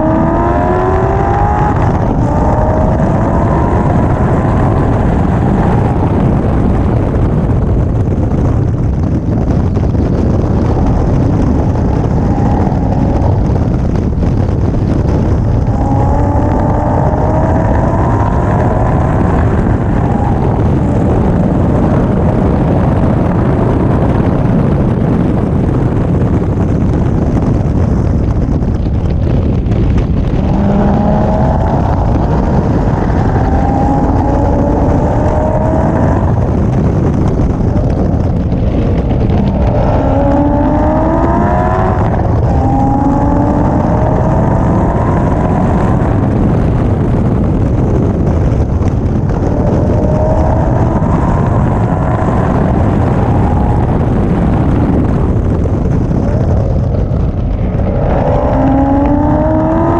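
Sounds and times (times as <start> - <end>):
engine accelerating through gears: 0.0 - 7.8, 10.6 - 23.2, 26.6 - 59.9
wind noise on microphone: 0.0 - 59.9.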